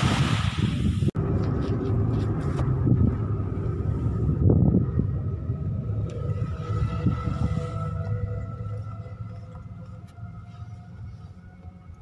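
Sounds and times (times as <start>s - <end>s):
car cabin rumble: 1.2s - 11.7s.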